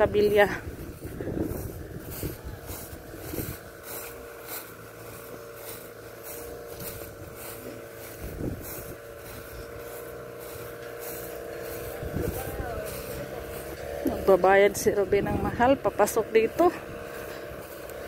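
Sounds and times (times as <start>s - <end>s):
footsteps through dry grass: 0.0s - 18.0s
truck engine humming: 0.0s - 18.0s.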